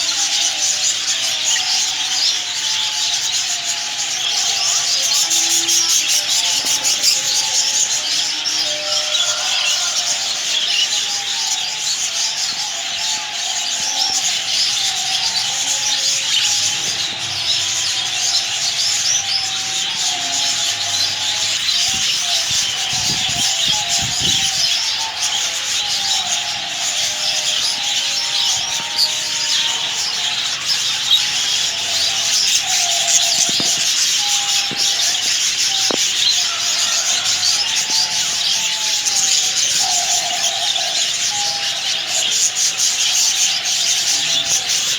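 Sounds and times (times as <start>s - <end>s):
lower warbling bird calls: 0.0s - 44.9s
small birds chattering and chirping: 0.0s - 44.9s.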